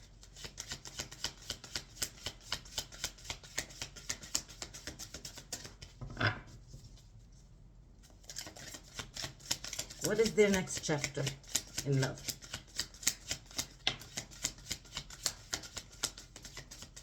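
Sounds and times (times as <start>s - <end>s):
cards being shuffled: 0.2s - 6.0s, 8.1s - 17.0s.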